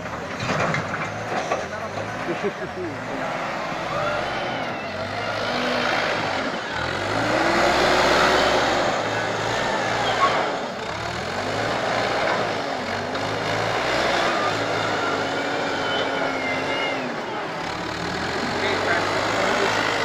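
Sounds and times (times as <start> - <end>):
diesel engine revving under load: 0.0 - 20.0.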